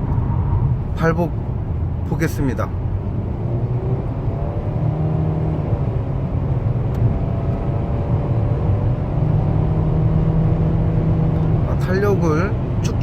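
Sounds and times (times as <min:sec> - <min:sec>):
car engine under heavy throttle: 0:00.0 - 0:13.0
road rumble: 0:00.0 - 0:13.0.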